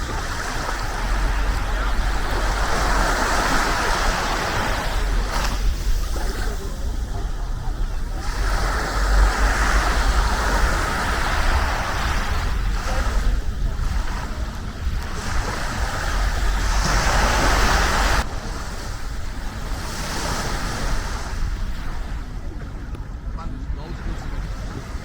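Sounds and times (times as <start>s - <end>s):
sea waves breaking on beach: 0.0s - 25.0s
wind rumbling on microphone: 0.0s - 25.0s.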